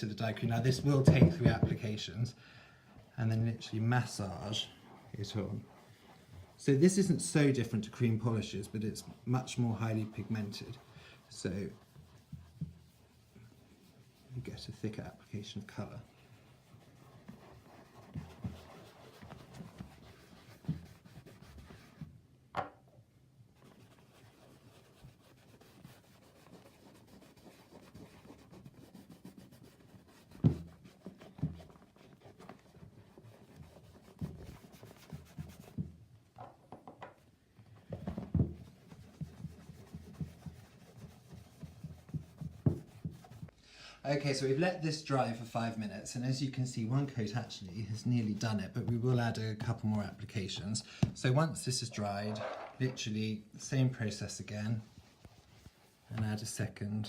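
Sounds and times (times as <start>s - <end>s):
cloth rubbing leather: 3.0s - 22.2s, 23.5s - 36.0s, 37.2s - 43.6s, 47.2s - 56.4s.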